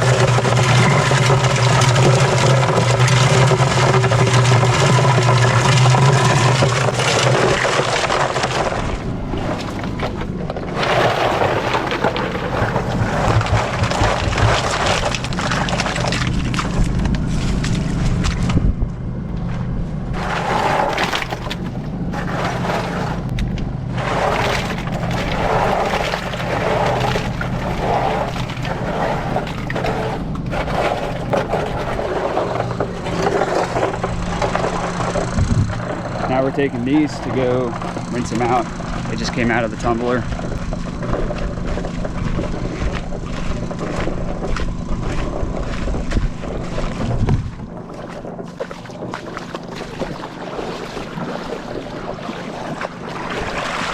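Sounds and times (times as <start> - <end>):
cement mixer engine humming: 0.0 - 53.9.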